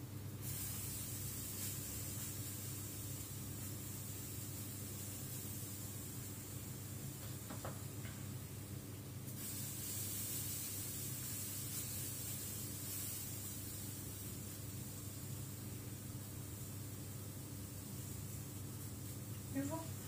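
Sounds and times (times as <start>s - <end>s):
batter sizzling in a frying pan: 0.0s - 20.0s
low steady hum: 0.0s - 20.0s.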